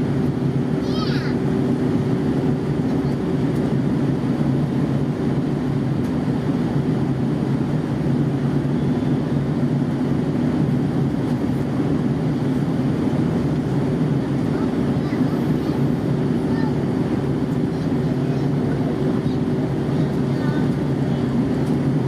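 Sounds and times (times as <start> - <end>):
jet engine and airflow hum: 0.0 - 22.0.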